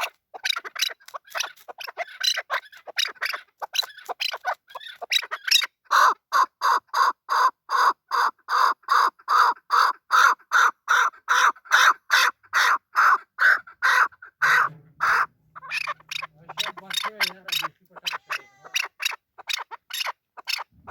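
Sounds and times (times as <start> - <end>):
partridge calling harsh notes: 0.0 - 6.1, 8.6 - 20.9.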